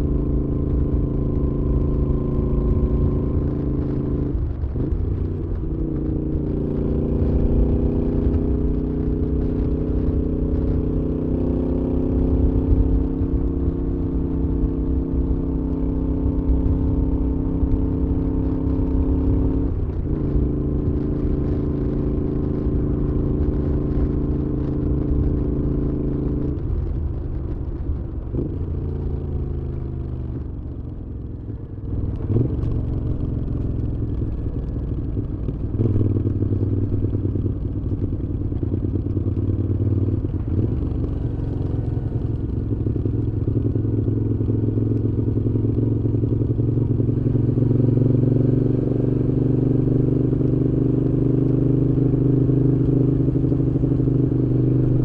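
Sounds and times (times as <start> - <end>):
motorcycle engine under way: 0.0 - 55.0.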